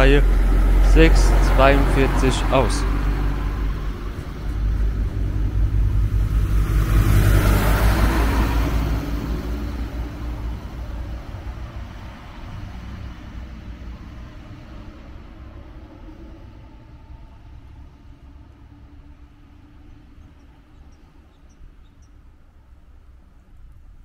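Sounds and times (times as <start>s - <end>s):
diesel train engines rumbling: 0.0s - 24.0s.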